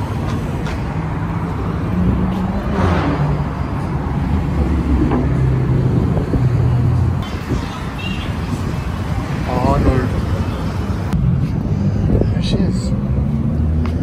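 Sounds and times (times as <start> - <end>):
car passing: 0.0 - 14.0
vehicle engines running: 0.0 - 14.0.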